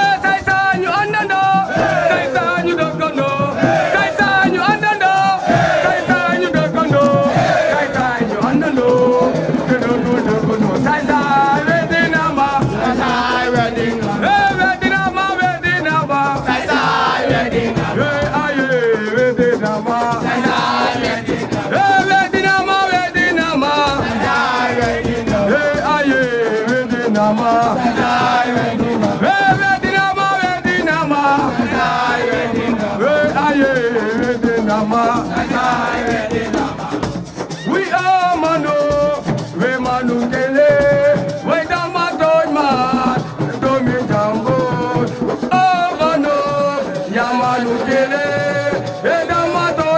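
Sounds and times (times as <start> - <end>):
shaken rattle: 0.0 - 49.9
singing voices: 0.0 - 49.9.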